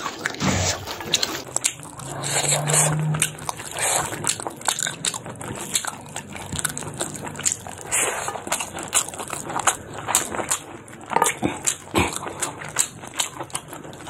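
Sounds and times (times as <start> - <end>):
close-up chewing: 0.0 - 14.0.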